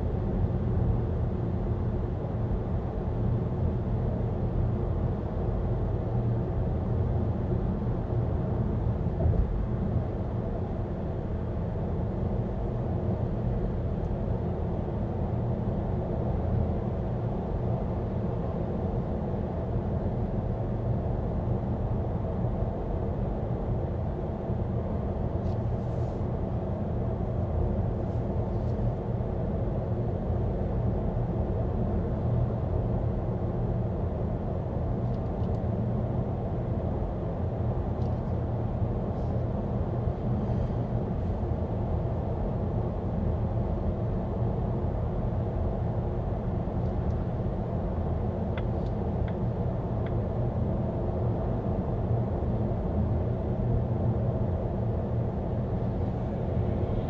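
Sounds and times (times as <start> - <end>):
car road and tyre rumble: 0.0 - 57.0.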